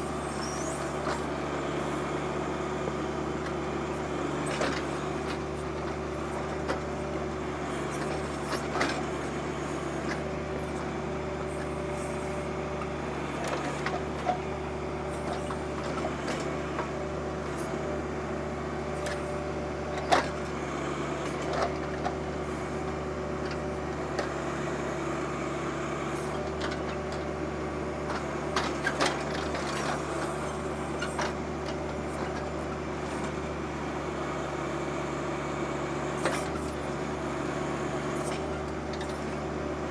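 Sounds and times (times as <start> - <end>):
diesel tractors running: 0.0 - 39.9.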